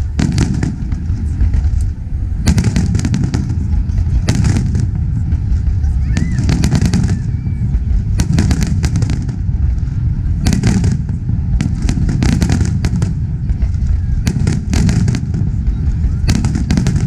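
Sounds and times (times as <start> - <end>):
continuous low rumble: 0.0 - 17.0
fireworks cracks and bangs: 0.0 - 17.0.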